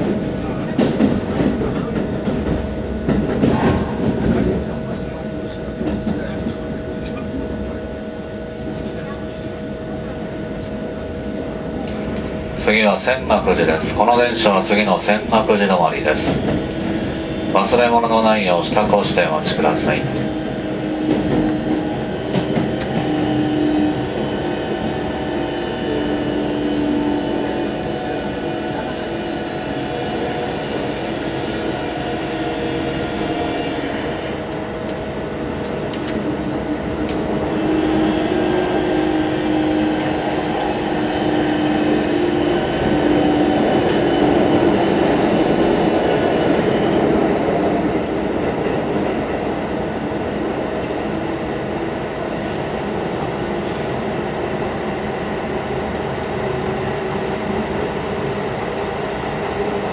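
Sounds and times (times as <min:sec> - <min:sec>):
electric train rumble: 0:00.0 - 0:59.9.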